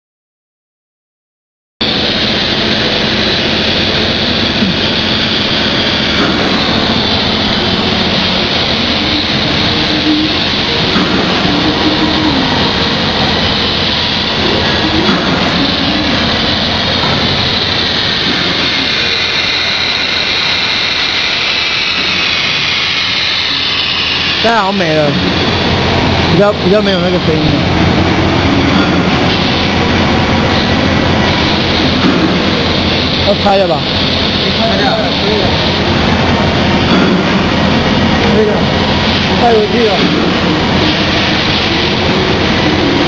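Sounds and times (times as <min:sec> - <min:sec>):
water rushing through pipework: 0:01.8 - 0:43.0.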